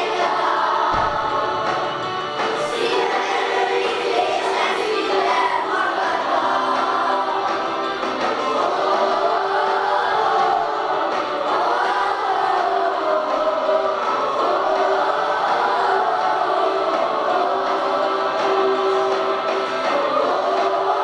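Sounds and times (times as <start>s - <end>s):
girls singing together: 0.0s - 21.0s.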